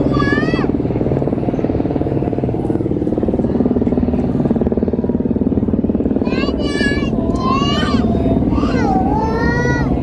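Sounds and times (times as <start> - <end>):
motor rumbling with rapid pulsing: 0.0 - 10.0.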